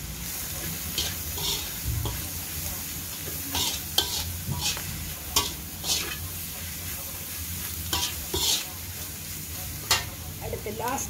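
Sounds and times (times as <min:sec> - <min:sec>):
food sizzling: 0:00.0 - 0:11.0
metal spatula scraping wok: 0:00.2 - 0:10.3.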